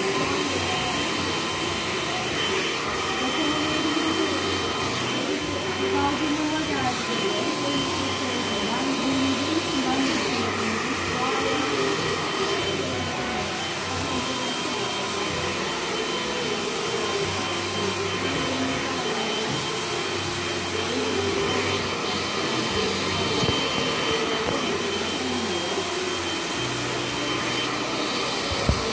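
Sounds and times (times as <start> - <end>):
hair dryer running: 0.0 - 28.9.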